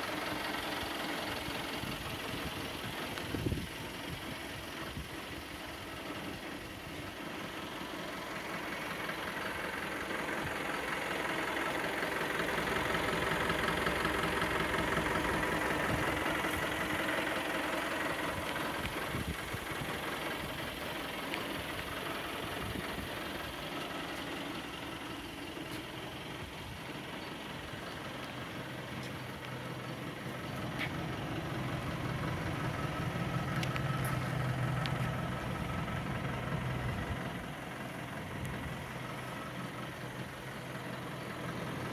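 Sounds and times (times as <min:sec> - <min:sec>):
truck diesel engine idling: 0:00.0 - 0:41.9.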